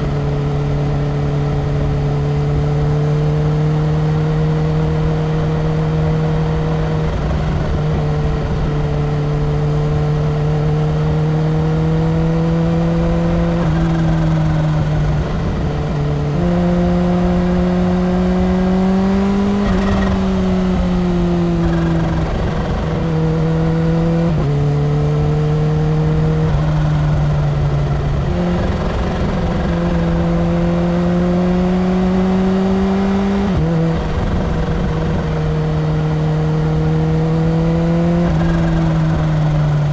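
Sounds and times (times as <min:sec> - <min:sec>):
motorcycle engine at highway speed: 0:00.0 - 0:39.9.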